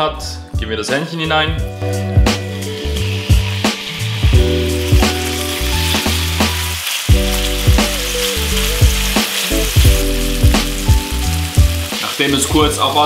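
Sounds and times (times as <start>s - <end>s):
background music with beat: 0.0s - 13.0s
chicken sizzling in oil: 1.9s - 13.0s
spatula turning food in pan: 2.5s - 13.0s.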